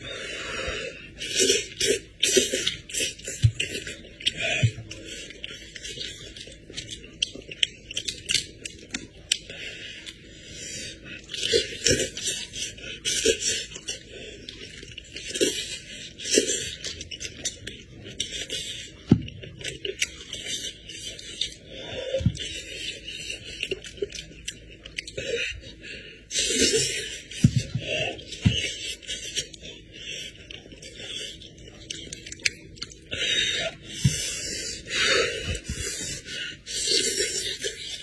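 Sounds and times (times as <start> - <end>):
wet smacking and chewing: 1.2 - 38.0.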